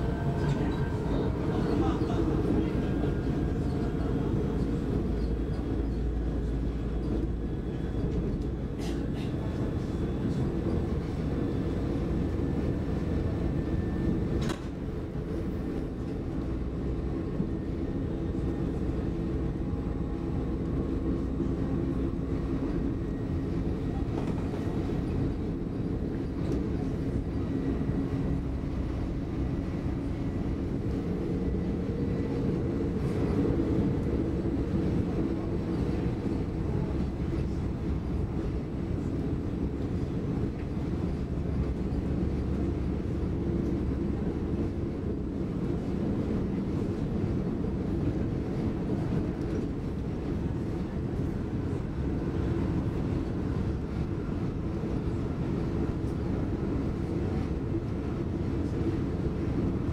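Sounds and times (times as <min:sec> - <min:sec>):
steady train hum: 0:00.0 - 0:59.9
train wheels rumbling on rail: 0:00.0 - 0:59.9.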